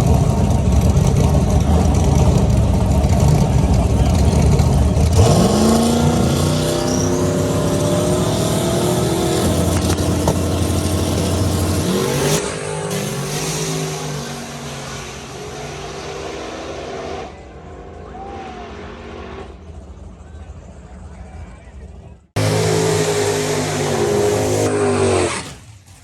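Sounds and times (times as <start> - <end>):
drag car engine at full throttle: 0.0 - 26.0.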